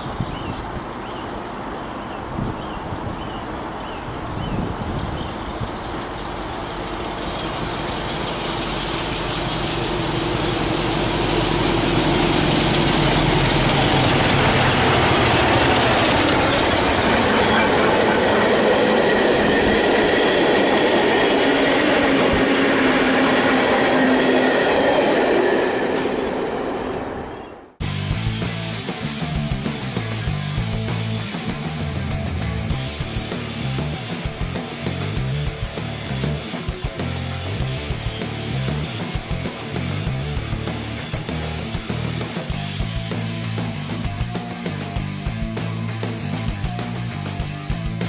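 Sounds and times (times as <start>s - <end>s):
train passing close by: 0.0s - 48.0s
steady low tones: 3.5s - 48.0s.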